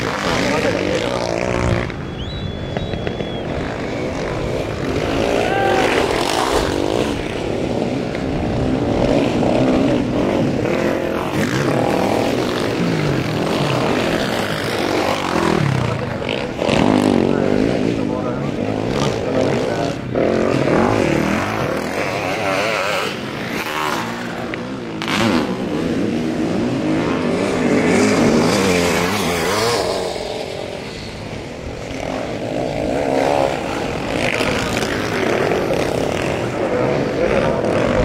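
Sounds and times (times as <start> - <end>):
motocross sidecar engines racing: 0.0 - 38.0.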